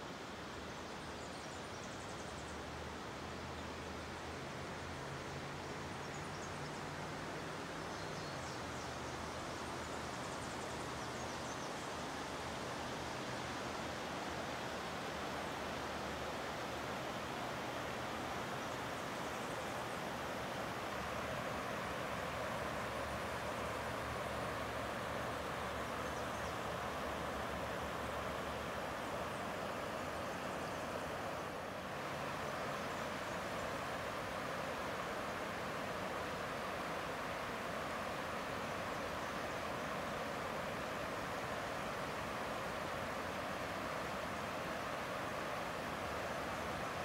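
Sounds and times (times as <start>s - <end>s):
creek rushing: 2.5s - 47.0s.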